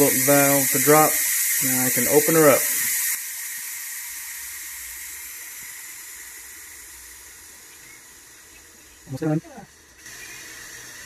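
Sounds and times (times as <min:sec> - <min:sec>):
steam hissing from vent valve: 0:00.0 - 0:11.0.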